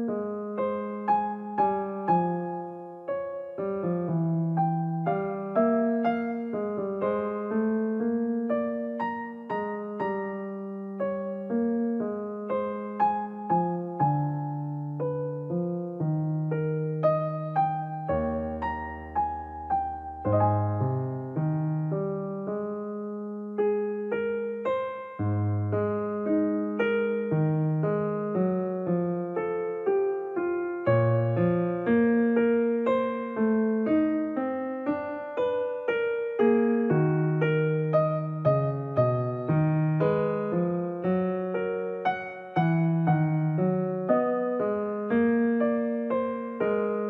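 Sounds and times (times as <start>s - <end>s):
gentle piano melody: 0.0s - 47.0s.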